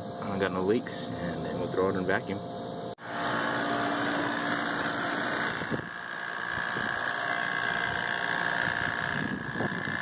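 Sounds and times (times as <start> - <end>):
machine high whine: 0.0 - 10.0
machine noisy hum: 0.0 - 10.0.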